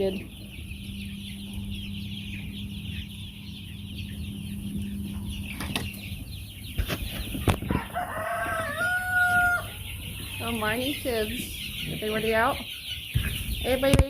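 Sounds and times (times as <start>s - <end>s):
chicks peeping: 0.0s - 14.0s
steady low hum: 0.0s - 14.0s.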